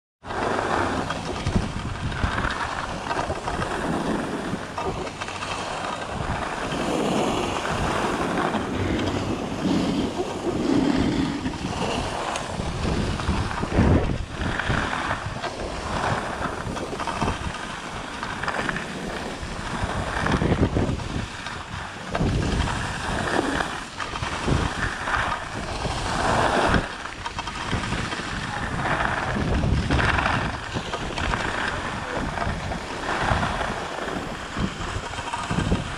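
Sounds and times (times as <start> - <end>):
skis scraping over snow: 0.2 - 35.9
wind rushing over microphone: 0.2 - 35.9.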